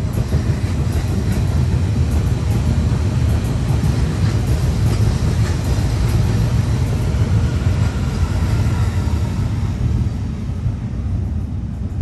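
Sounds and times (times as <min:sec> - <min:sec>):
train rumbling across bridge: 0:00.0 - 0:12.0.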